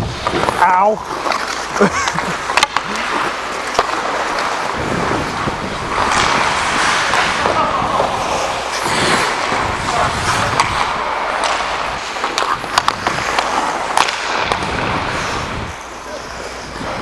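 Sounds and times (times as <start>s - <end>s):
ice skates scraping ice: 0.0s - 17.0s
stick hitting puck: 0.2s - 4.8s, 5.9s - 15.3s.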